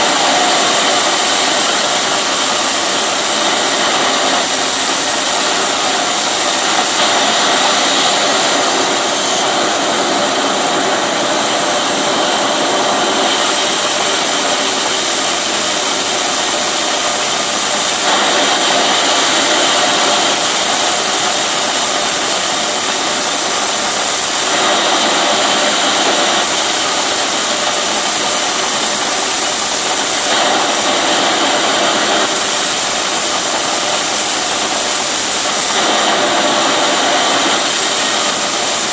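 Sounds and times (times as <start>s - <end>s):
chainsaw running at high speed: 0.0s - 38.9s.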